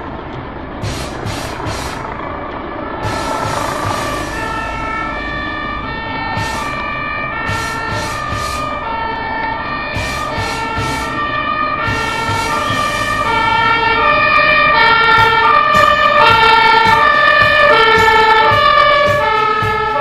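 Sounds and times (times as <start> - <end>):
fire engine two-tone siren: 0.8 - 20.0.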